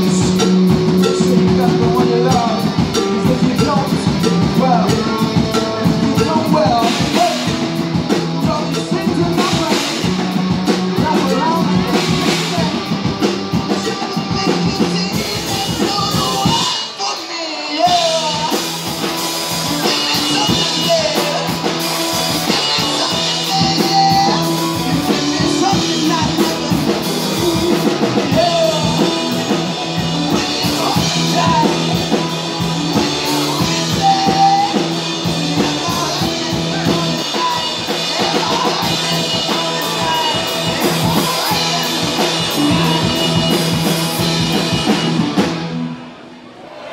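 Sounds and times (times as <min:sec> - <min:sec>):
person singing lead vocal: 0:00.0 - 0:45.4
electric guitar: 0:00.0 - 0:46.1
bass guitar: 0:00.0 - 0:46.2
drum kit: 0:00.0 - 0:46.2
keyboard: 0:00.0 - 0:46.9.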